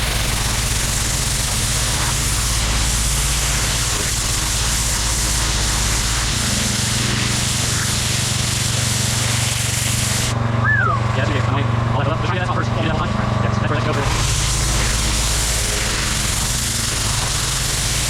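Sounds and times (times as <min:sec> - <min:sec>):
water jet spraying: 0:00.0 - 0:11.6, 0:13.7 - 0:18.0
pressure washer engine: 0:00.0 - 0:18.0.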